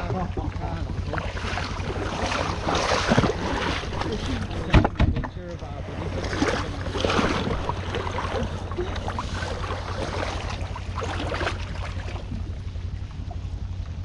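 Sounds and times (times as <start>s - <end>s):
jet ski engine running: 0.0s - 14.0s
water splashing against hull: 0.0s - 14.0s.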